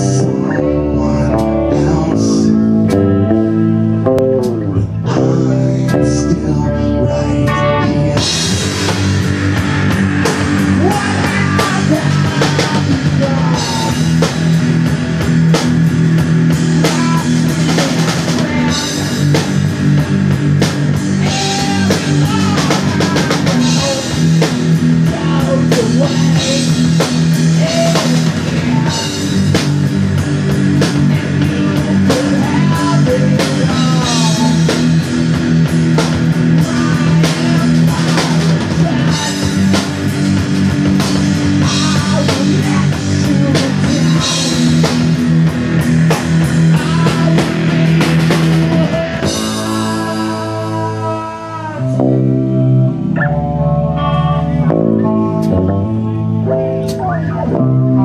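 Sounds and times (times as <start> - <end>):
drum kit beat: 0.0 - 53.2
electric bass: 0.0 - 58.0
electric guitar: 0.0 - 58.0.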